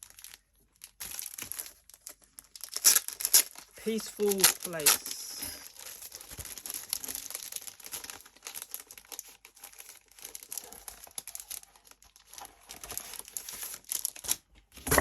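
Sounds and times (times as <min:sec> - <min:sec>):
paper rustling: 0:00.0 - 0:15.0
plastic packaging crinkling: 0:00.0 - 0:15.0.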